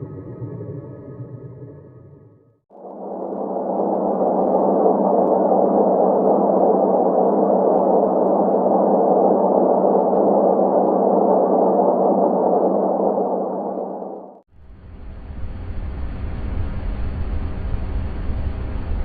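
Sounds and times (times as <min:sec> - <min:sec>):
steady rushing noise: 0:02.7 - 0:19.0.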